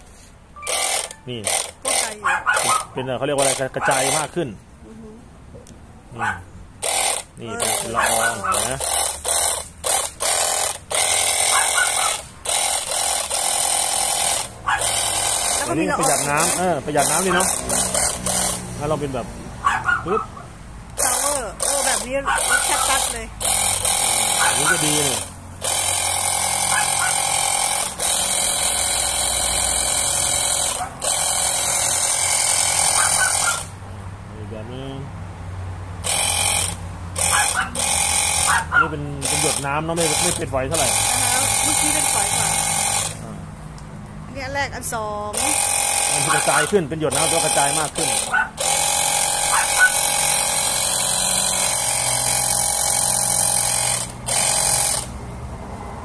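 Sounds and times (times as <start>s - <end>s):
water spray gun motor pump: 0.0s - 4.4s, 6.2s - 19.2s, 20.9s - 33.8s, 36.0s - 43.4s, 45.3s - 55.3s.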